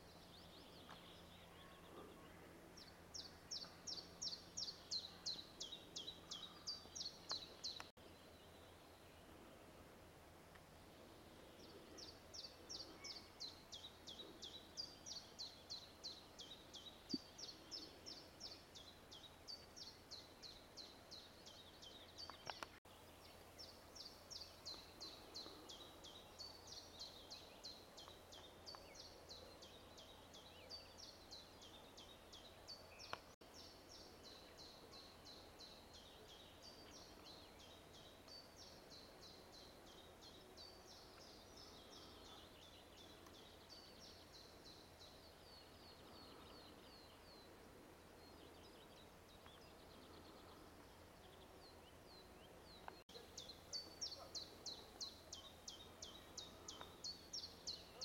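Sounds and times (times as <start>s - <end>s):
faint birdsong: 0.0s - 58.0s.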